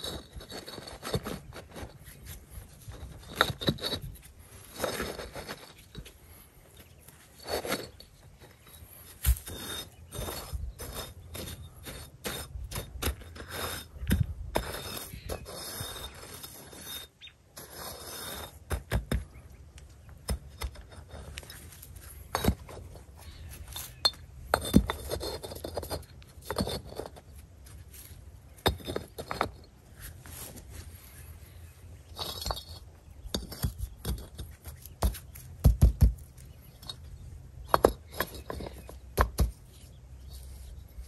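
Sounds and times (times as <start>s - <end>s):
bricks clinking and knocking: 0.0s - 30.1s, 32.0s - 41.0s
brick scraping on gravel: 0.0s - 41.0s.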